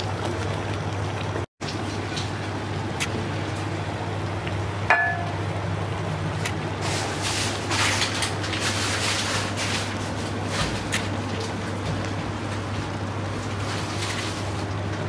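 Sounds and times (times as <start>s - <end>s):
curry simmering and bubbling: 0.0s - 15.0s.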